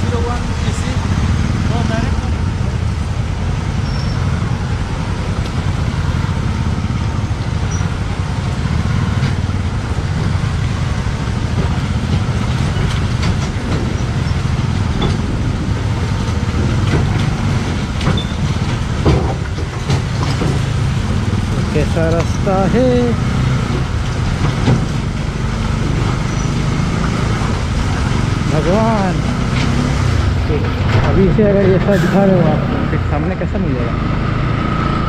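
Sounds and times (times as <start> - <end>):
motorcycle engine and wind rumble: 0.0 - 35.0.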